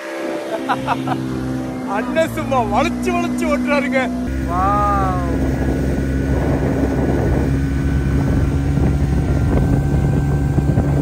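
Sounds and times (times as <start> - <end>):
motorboat engine running: 0.0 - 11.0
wind and water rushing: 0.0 - 11.0.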